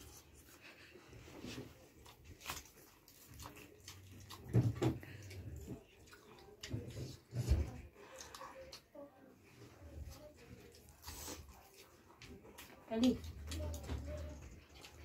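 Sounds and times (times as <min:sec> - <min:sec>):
children chewing: 0:00.0 - 0:15.0.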